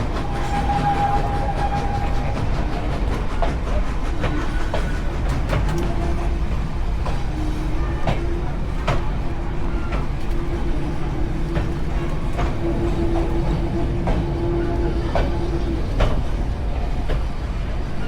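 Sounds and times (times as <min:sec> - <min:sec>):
train carriage rumbling on track: 0:00.0 - 0:18.0.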